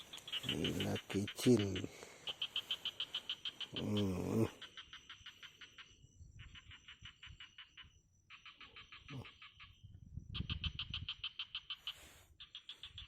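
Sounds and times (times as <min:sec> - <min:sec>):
frogs calling in pulsed trills: 0:00.0 - 0:13.0.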